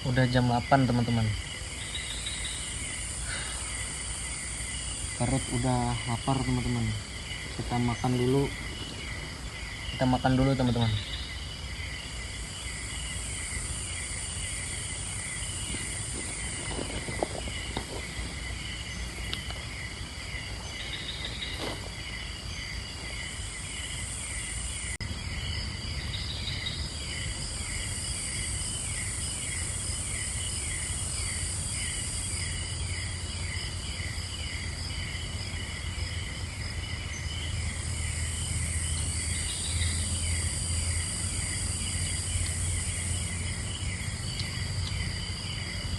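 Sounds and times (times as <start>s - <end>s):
high insect buzz: 0.0s - 45.9s
insects chirping: 0.0s - 45.9s
pulsing insect trill: 0.0s - 45.9s.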